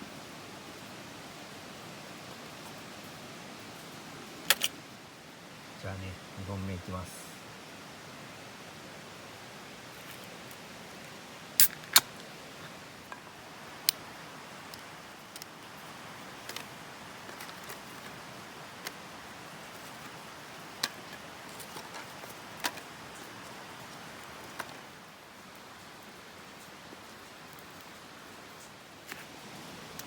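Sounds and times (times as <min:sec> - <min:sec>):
steady rushing hiss: 0:00.0 - 0:30.0.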